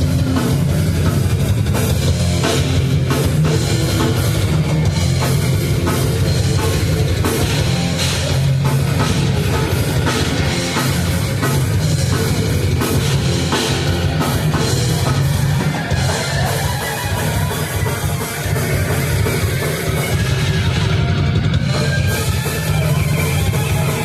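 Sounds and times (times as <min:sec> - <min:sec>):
bass guitar: 0:00.0 - 0:24.0
distorted electric guitars: 0:00.0 - 0:24.0
pounding drum kit: 0:00.0 - 0:24.0.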